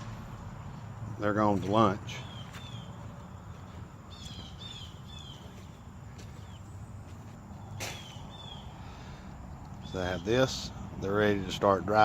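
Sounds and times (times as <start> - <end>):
bird chirping: 2.1 - 12.0.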